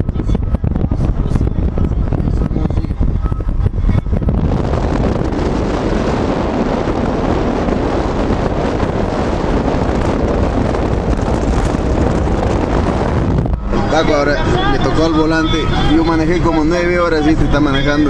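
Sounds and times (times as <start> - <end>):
car road and engine noise: 0.0 - 18.0
wind buffeting microphone: 0.0 - 18.0.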